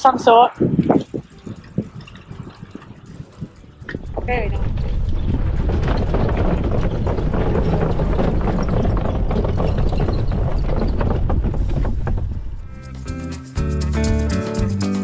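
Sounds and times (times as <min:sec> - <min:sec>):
wind buffeting microphone: 0:00.0 - 0:12.9
bicycle tyres on wooden boardwalk: 0:00.0 - 0:13.2.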